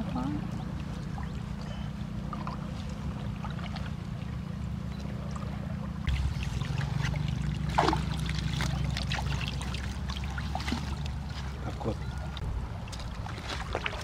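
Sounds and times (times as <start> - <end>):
boat engine running: 0.0 - 14.0
small wet splashes and rustles: 0.0 - 14.0
water trickling and splashing: 0.0 - 14.0.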